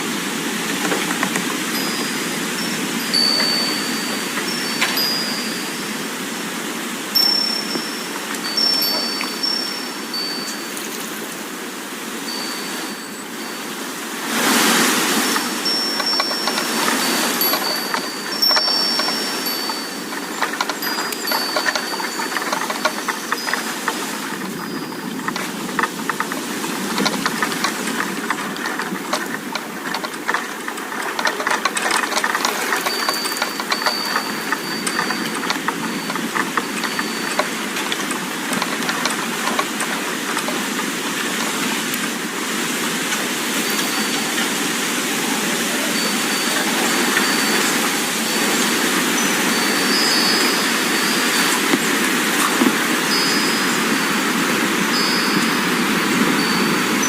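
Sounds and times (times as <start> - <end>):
wind chimes ringing: 0.4 - 57.0.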